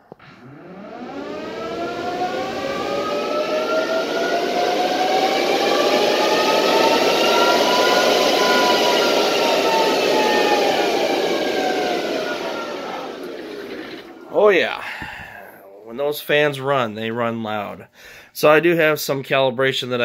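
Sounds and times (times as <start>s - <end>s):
cooling fans whining: 0.0s - 16.5s.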